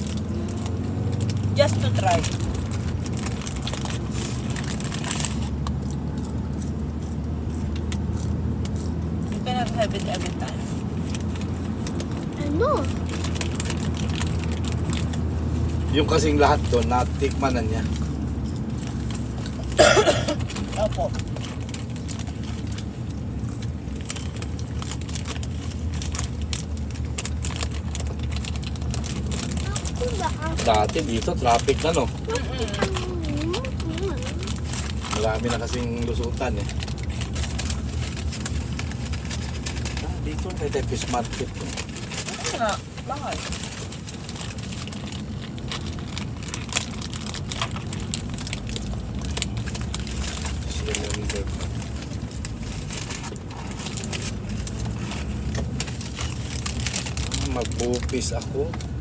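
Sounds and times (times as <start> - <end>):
car road noise rumble: 0.0 - 59.0
food packaging crinkling: 0.0 - 59.0
small clicks and rattles: 0.0 - 59.0.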